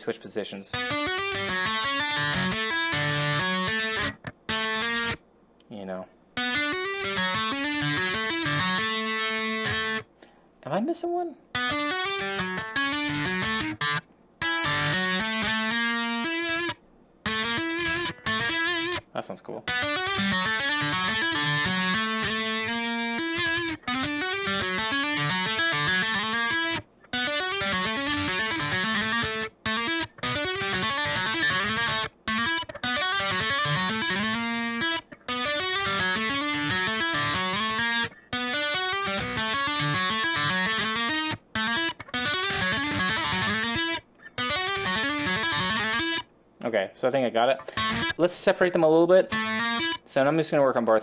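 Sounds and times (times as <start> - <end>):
electric guitar tapping runs: 0.7 - 5.2, 6.4 - 10.0, 11.5 - 19.1, 19.7 - 46.3, 47.6 - 48.2, 49.3 - 50.0.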